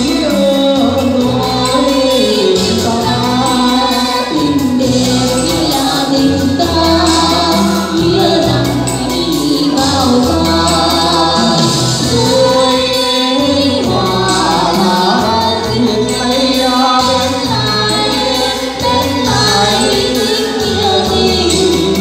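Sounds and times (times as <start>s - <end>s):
instrumental accompaniment with bass: 0.0s - 22.0s
man and woman singing duet: 0.0s - 22.0s.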